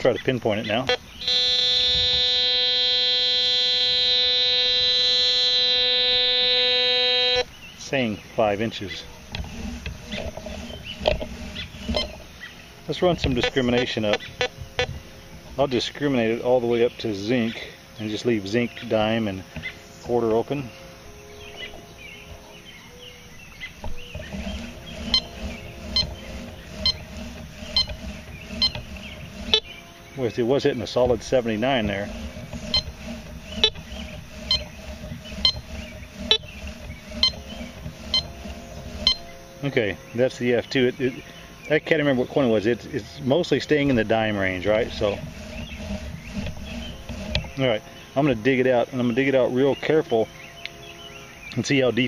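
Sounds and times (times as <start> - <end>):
metal detector buzzy tone: 0.0 - 52.0.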